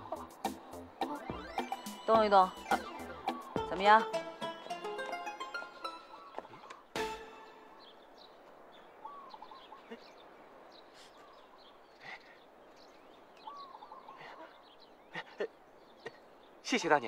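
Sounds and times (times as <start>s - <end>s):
small birds chirping: 0.0s - 17.0s
soft outdoor hiss: 0.0s - 17.0s.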